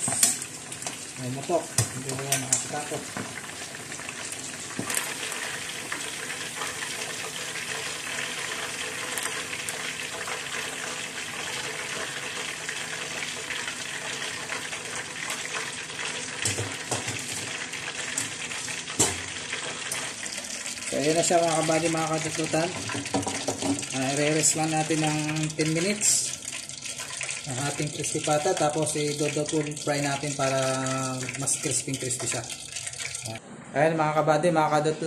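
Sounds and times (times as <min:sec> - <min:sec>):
oil sizzling and crackling: 0:00.0 - 0:33.4.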